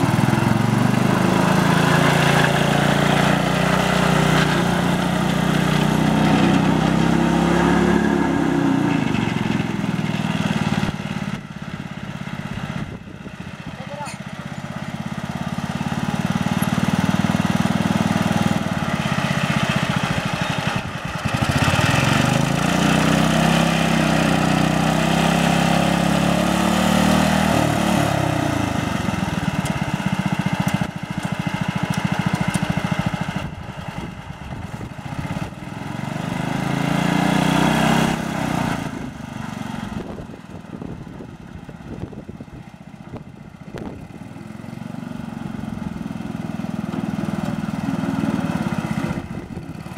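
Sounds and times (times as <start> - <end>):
small tractor engine running: 0.0 - 49.9.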